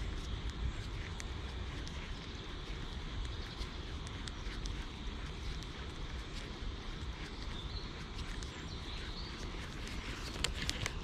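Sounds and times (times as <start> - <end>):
faint ticks: 0.0 - 11.0
wind buffeting microphone: 0.0 - 11.0.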